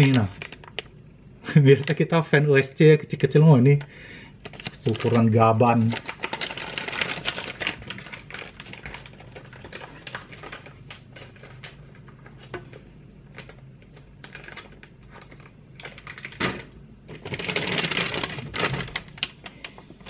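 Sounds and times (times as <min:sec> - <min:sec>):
plastic bags crinkling and rustling: 0:00.0 - 0:00.9, 0:04.4 - 0:20.0.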